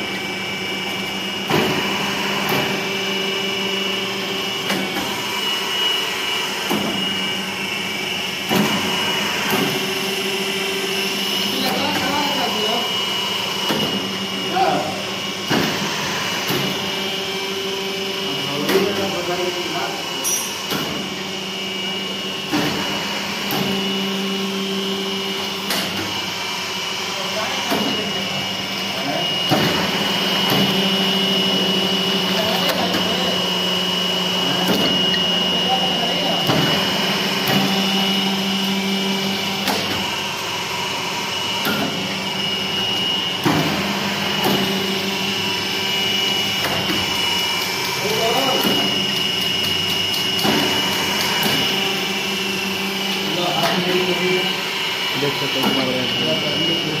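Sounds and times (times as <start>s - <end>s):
machine motor humming: 0.0s - 57.0s.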